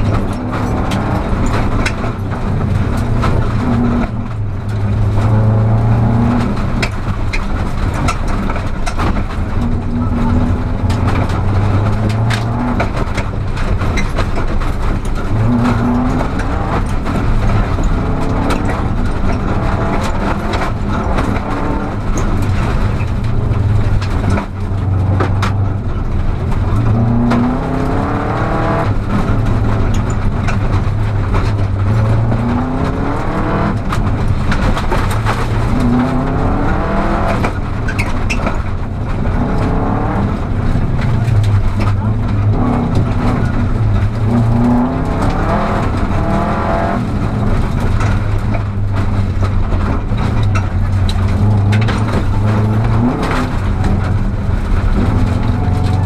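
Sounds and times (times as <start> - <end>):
car engine revving through gears: 0.0 - 56.0
gravel clicks and knocks: 0.0 - 56.0.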